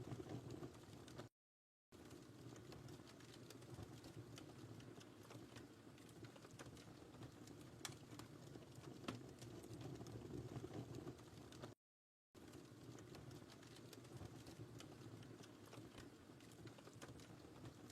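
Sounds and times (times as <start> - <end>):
wood fire crackling: 0.0 - 1.3, 2.0 - 11.8, 12.4 - 17.9.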